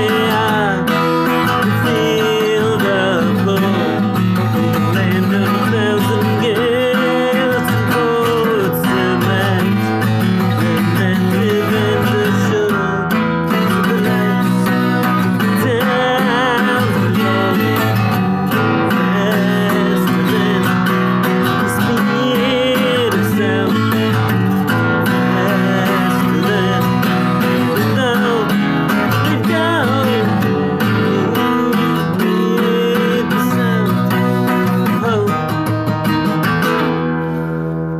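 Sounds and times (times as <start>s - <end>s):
acoustic guitar strumming: 0.0s - 37.9s.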